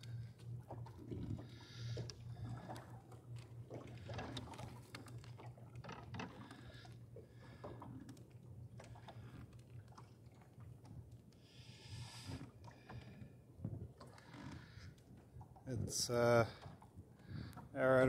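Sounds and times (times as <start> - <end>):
low steady hum: 0.0 - 18.0
water lapping against boat hull: 0.0 - 18.0.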